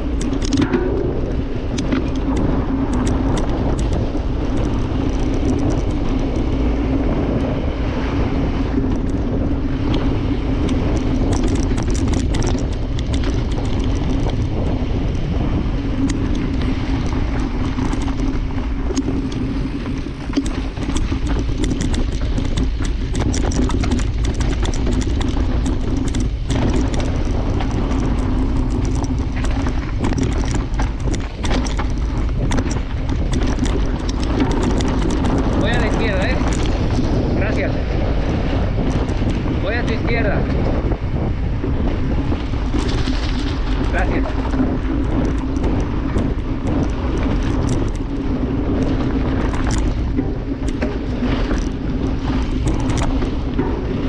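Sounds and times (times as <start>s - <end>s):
bike rattling over rocks: 0.0s - 54.0s
wind on microphone: 0.0s - 54.0s.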